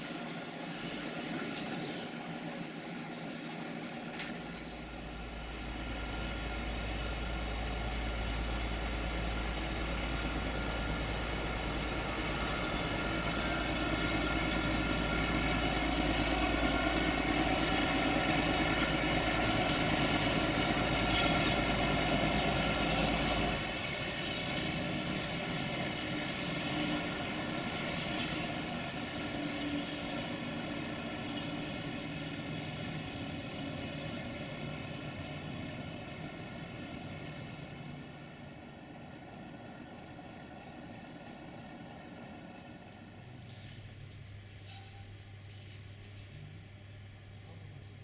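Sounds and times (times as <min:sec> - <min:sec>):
locomotive machinery humming: 0:00.0 - 0:48.0.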